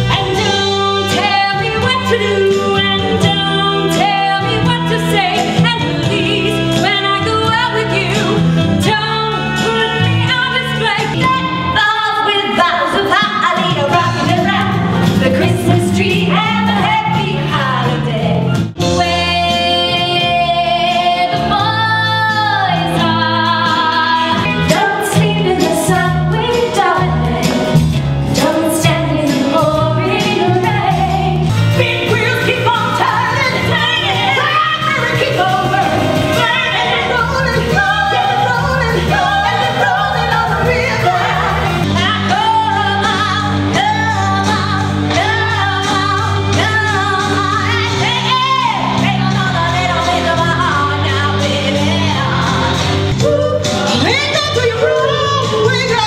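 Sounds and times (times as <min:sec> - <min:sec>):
band accompaniment: 0:00.0 - 0:56.0
women singing pop songs: 0:00.0 - 0:56.0.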